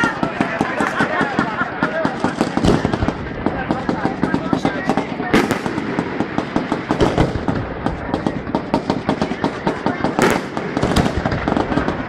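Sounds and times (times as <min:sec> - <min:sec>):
fireworks crackling: 0:00.0 - 0:12.0
loud firework bangs: 0:00.0 - 0:12.0.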